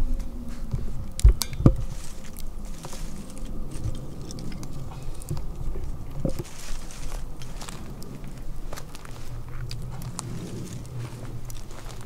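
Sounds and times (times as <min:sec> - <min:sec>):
small fire crackling: 0:00.0 - 0:12.0.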